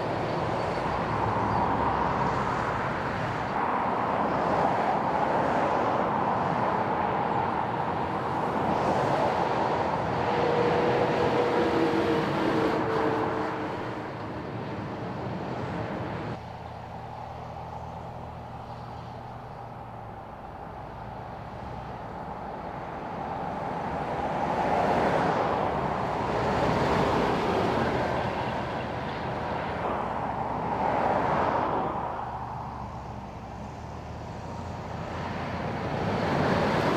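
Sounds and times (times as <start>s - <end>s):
vehicles driving past: 0.0s - 36.9s.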